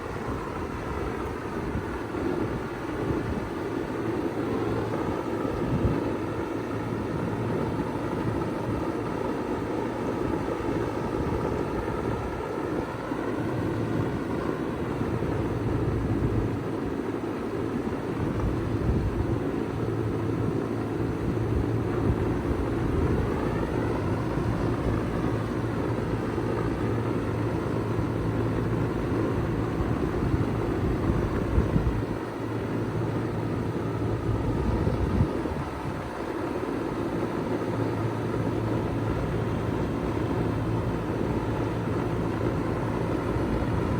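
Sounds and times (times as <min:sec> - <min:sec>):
heat pump humming: 0:00.0 - 0:43.9.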